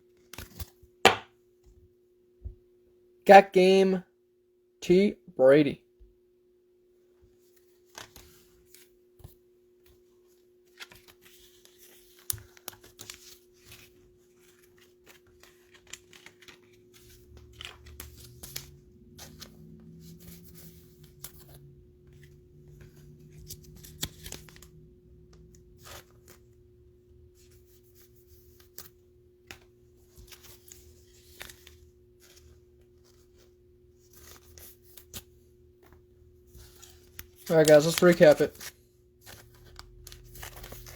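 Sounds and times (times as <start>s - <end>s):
trading cards crinkling and rustling: 0.1s - 1.2s, 7.3s - 40.9s.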